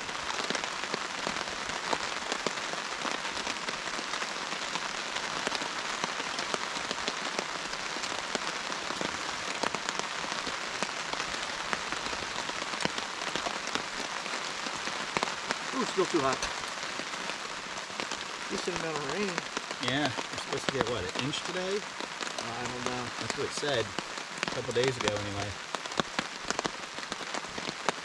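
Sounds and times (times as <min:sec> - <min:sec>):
rain falling on a tarp: 0:00.0 - 0:28.0.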